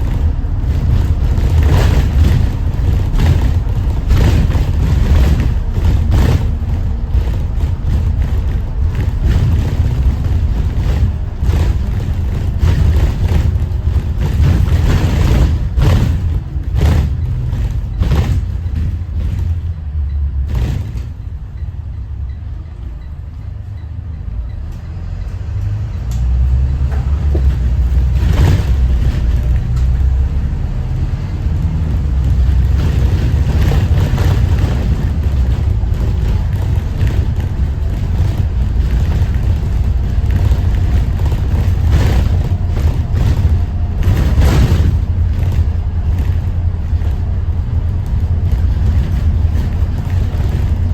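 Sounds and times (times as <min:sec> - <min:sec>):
bus engine rumble: 0:00.0 - 0:50.9
knocks and rattles: 0:00.0 - 0:50.9.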